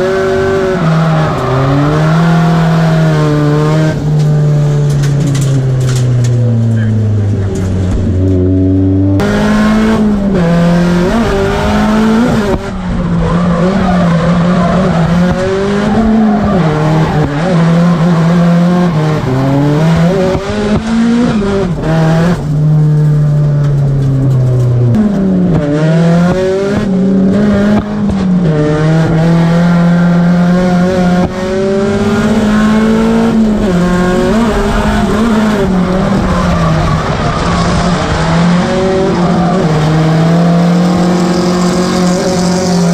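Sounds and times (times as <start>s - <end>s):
car engine revving high: 0.0s - 23.6s, 24.7s - 42.9s.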